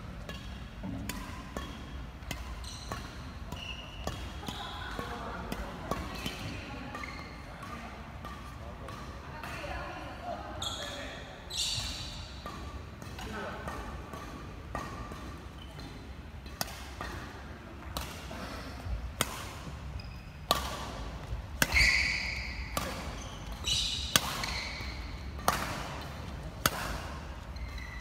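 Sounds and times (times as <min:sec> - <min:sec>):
rackets hitting shuttlecock: 0:00.2 - 0:09.7, 0:11.5 - 0:28.0.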